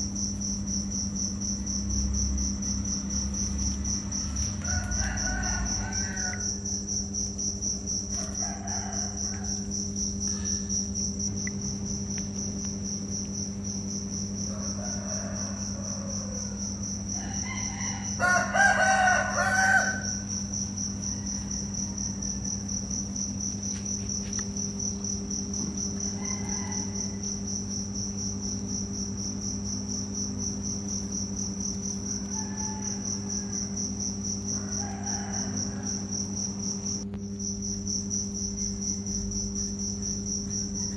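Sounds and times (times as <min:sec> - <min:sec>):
crickets trilling: 0:00.0 - 0:40.9
low steady hum: 0:00.0 - 0:40.9.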